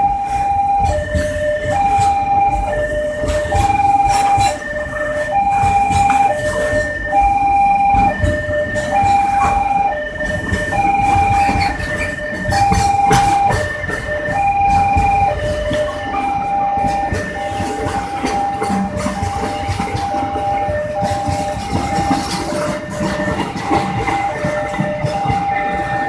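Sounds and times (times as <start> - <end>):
train wagons rolling past: 0.0 - 26.0
two-tone electronic warning signal: 0.0 - 26.0.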